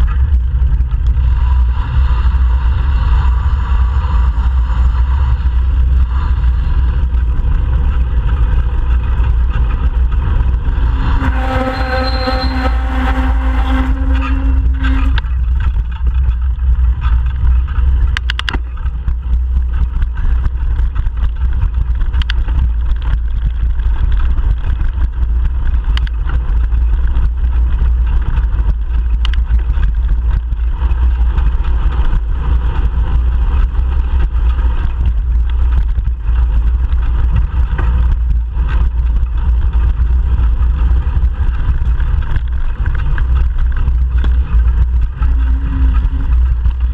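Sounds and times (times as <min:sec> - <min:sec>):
pitched hum: 0:00.0 - 0:46.9
road traffic: 0:00.0 - 0:46.9
wind rumble on microphone: 0:00.0 - 0:46.9.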